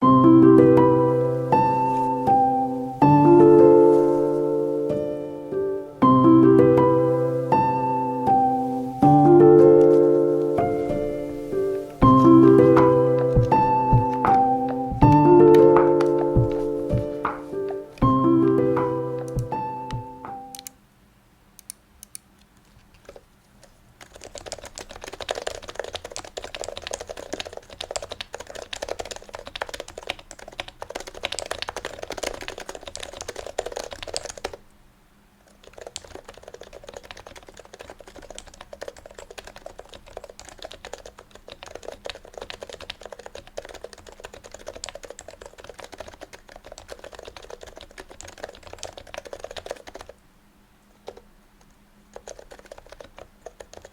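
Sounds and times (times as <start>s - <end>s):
keyboard typing: 6.0s - 20.8s, 21.6s - 34.6s, 35.5s - 50.2s, 51.0s - 53.9s.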